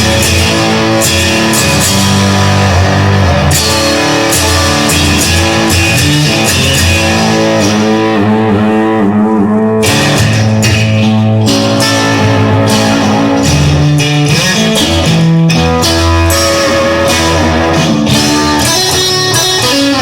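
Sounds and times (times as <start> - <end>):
rock guitar: 0.0 - 20.0.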